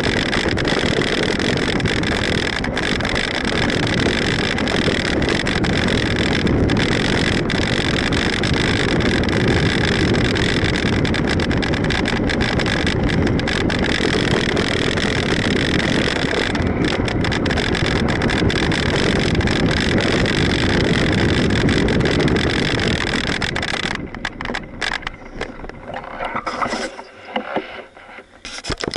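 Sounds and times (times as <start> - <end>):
bike tyre rumble on dirt: 0.0 - 28.9.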